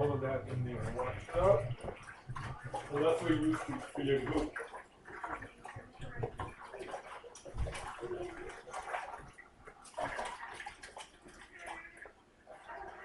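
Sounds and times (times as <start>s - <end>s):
hands sloshing in water: 0.0s - 13.0s.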